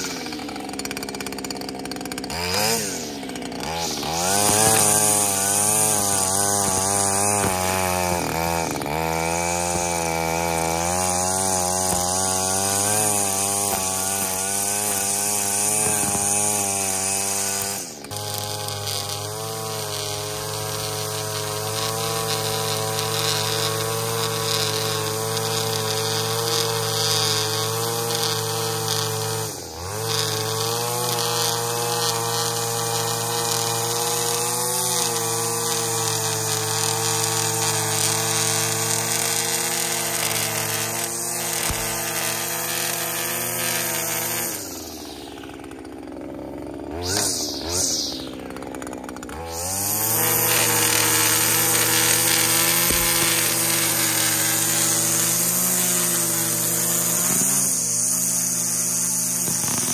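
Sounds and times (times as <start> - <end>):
string trimmer running: 0.0 - 59.9.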